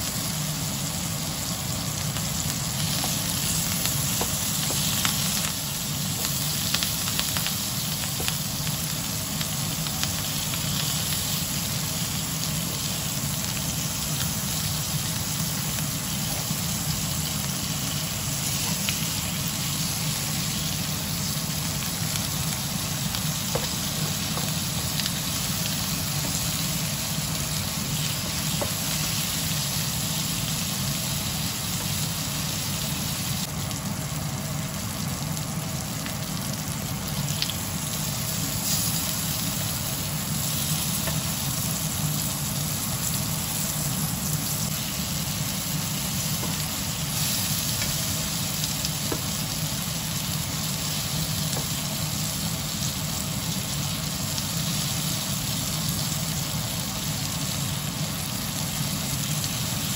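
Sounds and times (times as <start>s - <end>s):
meat sizzling in a pan: 0.0s - 59.9s.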